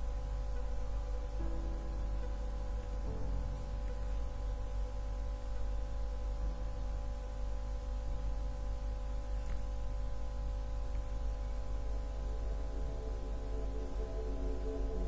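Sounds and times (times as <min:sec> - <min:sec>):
low hum: 0:00.0 - 0:15.0
soft drone music: 0:00.0 - 0:15.0.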